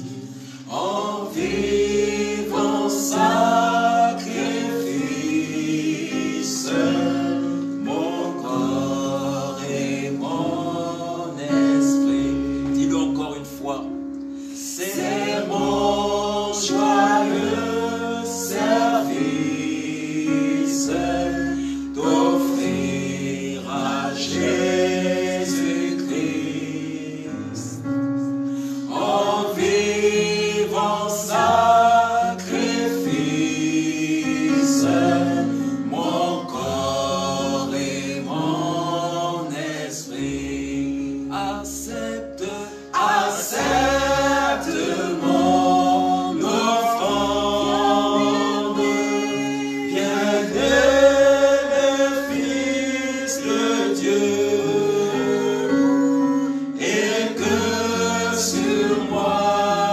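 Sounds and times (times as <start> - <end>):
congregation singing in chorus: 0.0 - 59.9.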